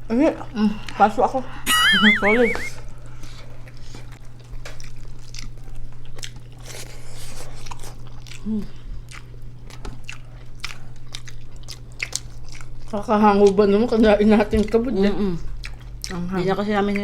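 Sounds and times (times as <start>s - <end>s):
low electrical hum: 0.0s - 17.0s
person chewing food: 2.1s - 16.3s.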